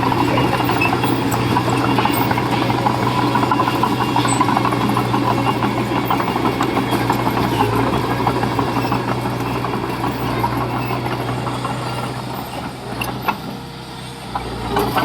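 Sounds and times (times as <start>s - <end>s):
diesel engine rattling: 0.0s - 15.0s.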